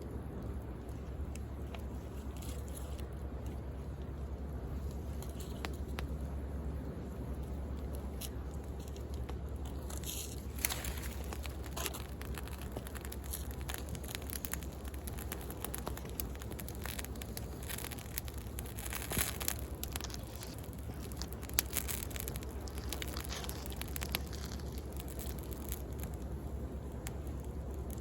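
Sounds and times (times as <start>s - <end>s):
wood bonfire crackling and popping: 0.0s - 28.0s.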